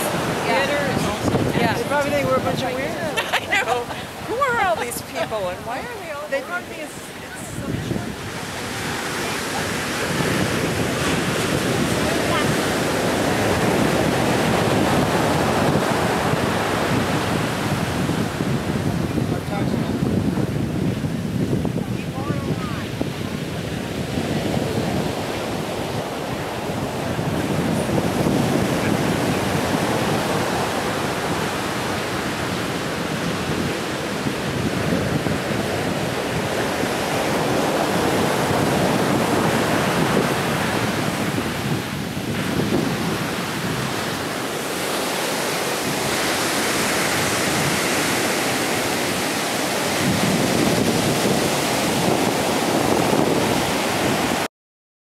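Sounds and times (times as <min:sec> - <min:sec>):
ocean surf on beach: 0:00.0 - 0:54.5
wind buffeting microphone: 0:00.0 - 0:54.5.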